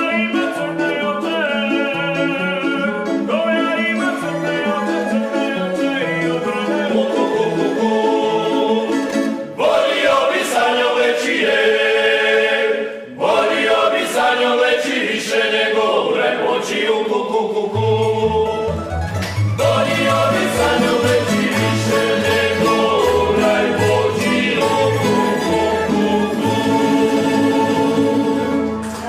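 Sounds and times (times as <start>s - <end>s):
plucked string ensemble: 0.0s - 12.4s, 13.1s - 29.0s
men singing together: 0.0s - 18.8s, 19.6s - 28.6s.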